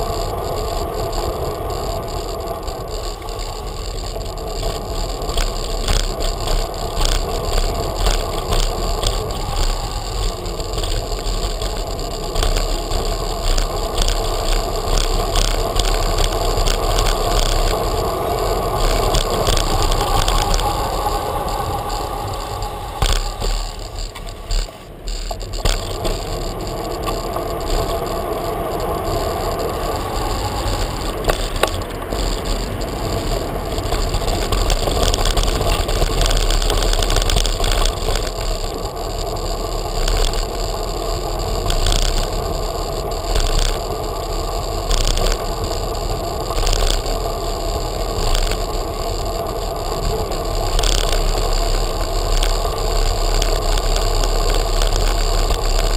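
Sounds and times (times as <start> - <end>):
bicycle rattling and knocking: 0.0 - 55.9
bicycle rolling over cobbles: 0.0 - 55.9.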